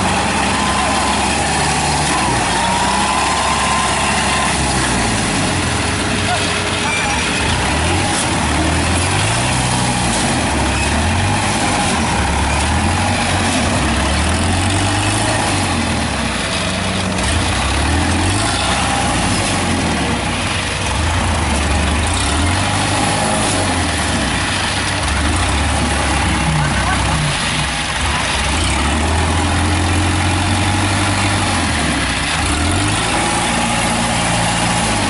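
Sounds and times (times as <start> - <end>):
diesel engines revving: 0.0 - 35.0.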